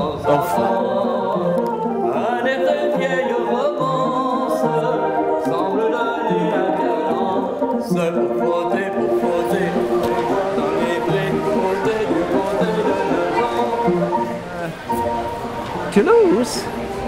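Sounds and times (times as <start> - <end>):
man singing: 0.0 - 15.1
barrel organ playing: 0.0 - 17.0.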